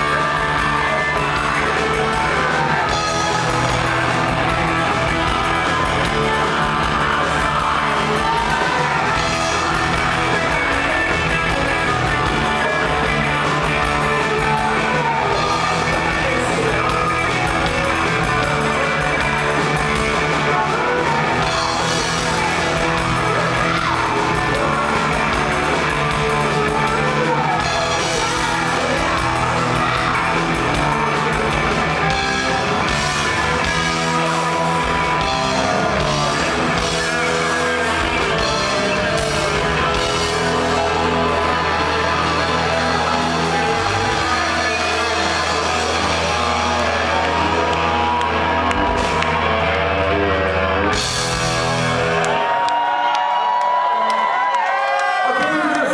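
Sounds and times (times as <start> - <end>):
drum kit: 0.0 - 54.5
bass guitar: 0.0 - 55.9
distorted electric guitars: 0.0 - 55.9.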